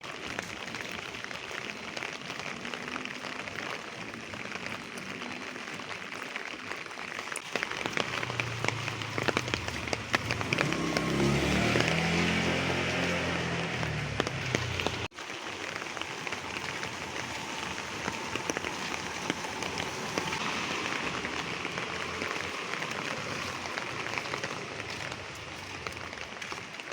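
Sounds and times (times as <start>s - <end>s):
light rain: 0.0s - 26.9s
raindrops ticking on surfaces: 0.0s - 26.9s.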